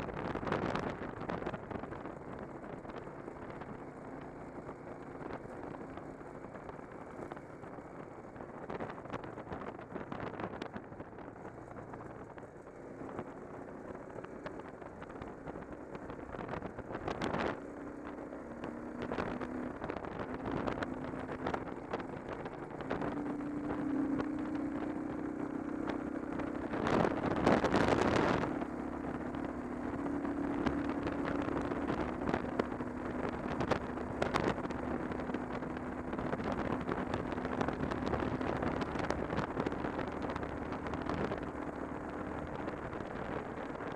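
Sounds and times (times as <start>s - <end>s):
motorcycle engine running: 0.0s - 43.9s
wind rushing across microphone: 0.0s - 43.9s.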